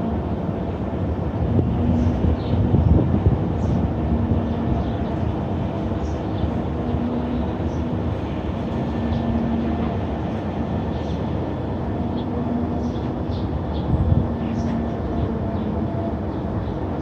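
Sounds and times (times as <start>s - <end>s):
low rumbling drone in the sky: 0.0s - 17.0s.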